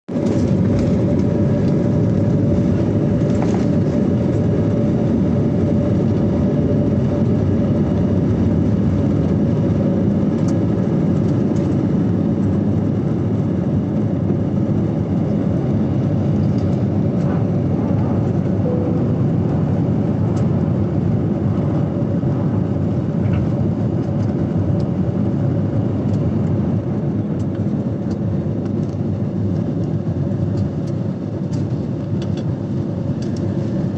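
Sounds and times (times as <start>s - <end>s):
aeroplane engine rumble: 0.1s - 33.9s.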